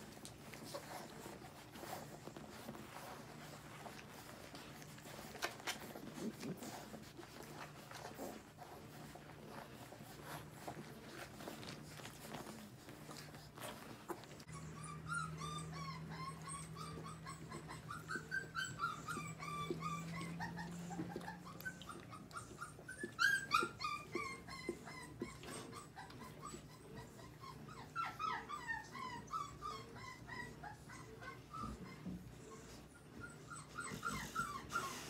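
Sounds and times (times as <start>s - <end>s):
puppies whimpering and squeaking: 0.0s - 35.0s.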